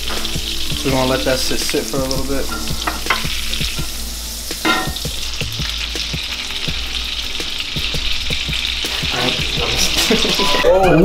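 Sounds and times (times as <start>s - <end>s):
butter sizzling in a pan: 0.0s - 11.0s.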